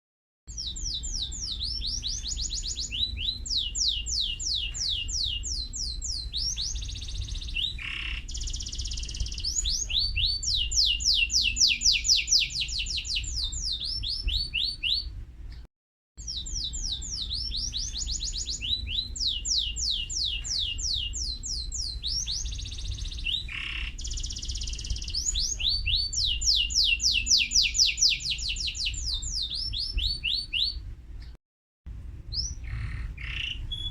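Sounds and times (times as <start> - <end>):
canary singing trills: 0.5 - 15.1, 16.2 - 31.4, 32.3 - 33.9.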